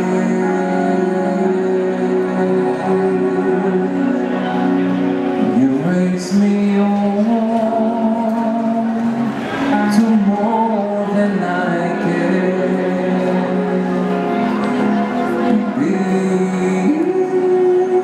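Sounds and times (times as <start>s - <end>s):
instrumental backing track: 0.0s - 18.0s
man singing a slow ballad: 0.0s - 18.0s.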